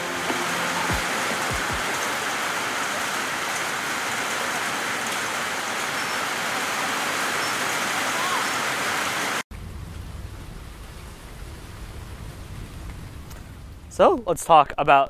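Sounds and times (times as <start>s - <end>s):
steady rain on concrete and grass: 0.0s - 14.3s.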